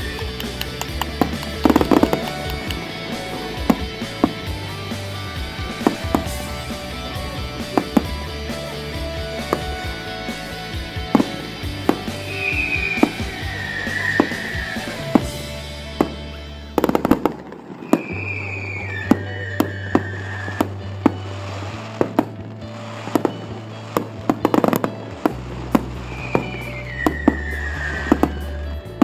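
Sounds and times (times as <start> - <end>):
firework shells bursting: 0.0 - 28.6
music with sustained bass: 0.0 - 29.0
rapid firework crackling: 0.0 - 29.0.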